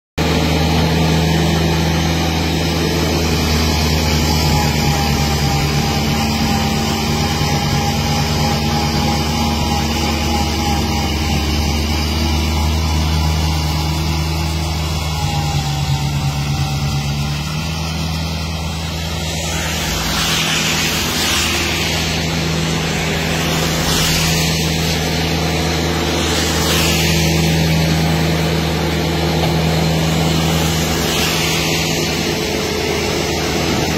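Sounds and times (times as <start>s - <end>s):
rushing hiss of snow blower: 0.2s - 33.9s
tractor diesel engine running: 0.2s - 33.9s.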